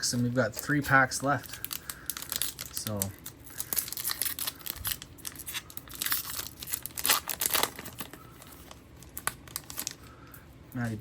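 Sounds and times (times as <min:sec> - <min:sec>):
foil wrapper tearing and crinkling: 0:00.4 - 0:10.0.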